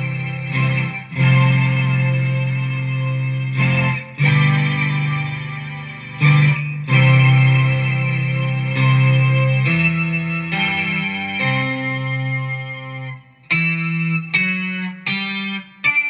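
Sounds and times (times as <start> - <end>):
synth electric guitar notes: 0.0 - 16.0.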